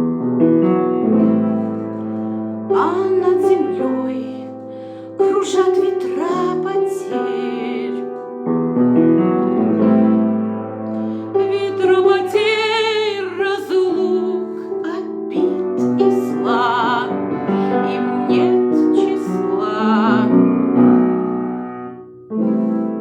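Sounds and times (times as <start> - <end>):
piano accompaniment: 0.0 - 23.0.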